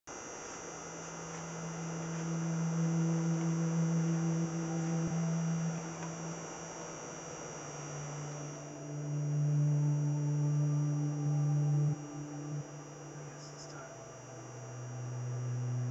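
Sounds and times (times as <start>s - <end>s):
low droning music tone: 0.8s - 15.9s
quiet held notes: 1.0s - 15.9s.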